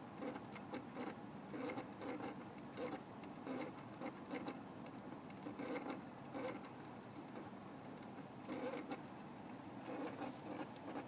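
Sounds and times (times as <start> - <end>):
faint clicking and scratching: 0.0 - 11.0.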